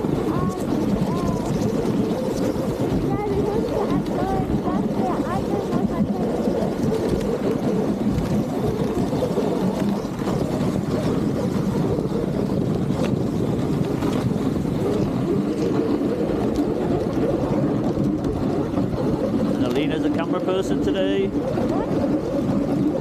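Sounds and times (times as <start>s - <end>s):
sled runners sliding over snow: 0.0s - 23.0s
wind buffeting microphone: 0.0s - 23.0s.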